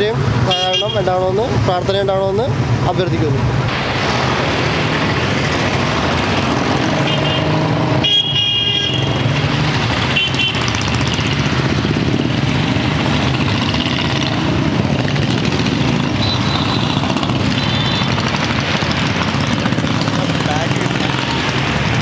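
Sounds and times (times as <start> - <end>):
motorcycle engines running: 0.0 - 22.0
road traffic: 0.0 - 22.0.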